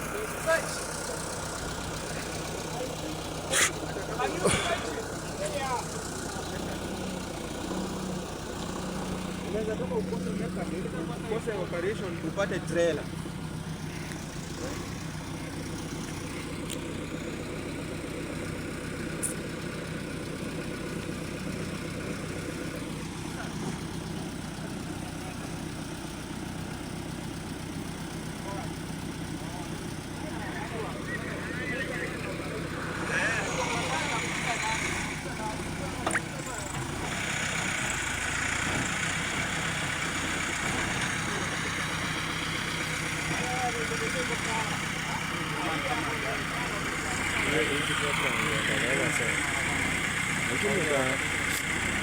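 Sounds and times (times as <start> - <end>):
diesel engine idling: 0.0 - 52.0.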